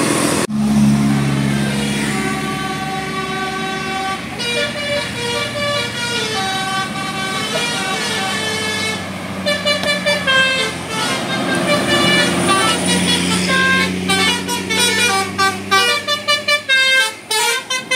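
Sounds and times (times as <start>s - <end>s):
low bus hum: 0.0s - 17.9s
bus horn playing a melody: 1.0s - 17.9s.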